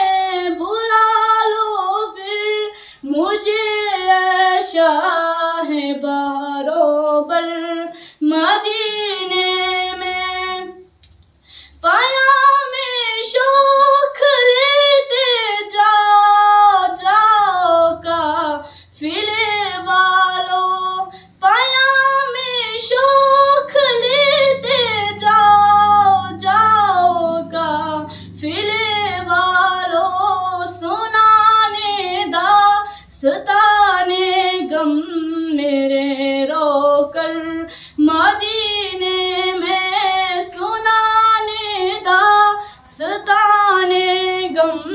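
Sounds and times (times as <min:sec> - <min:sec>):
girl singing unaccompanied: 0:00.0 - 0:10.8, 0:11.8 - 0:44.9.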